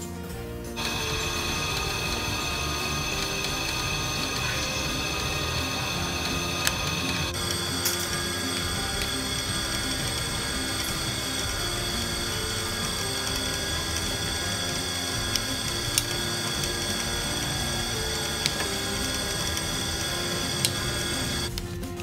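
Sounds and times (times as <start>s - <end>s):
drill press whining: 0.8s - 21.6s
sharp clicks: 0.8s - 21.7s.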